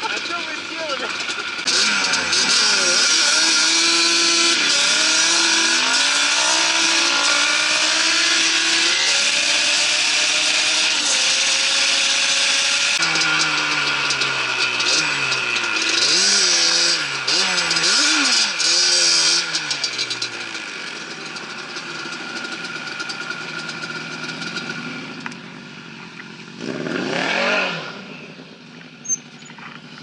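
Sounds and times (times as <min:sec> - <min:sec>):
quad engine revving through gears: 0:00.0 - 0:25.3, 0:26.5 - 0:28.4.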